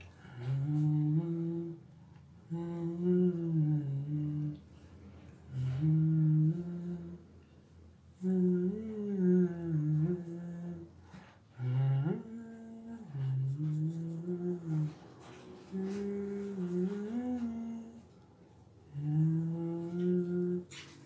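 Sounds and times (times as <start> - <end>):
man humming: 0.0 - 4.6, 5.5 - 7.3, 8.2 - 18.2, 18.8 - 20.9.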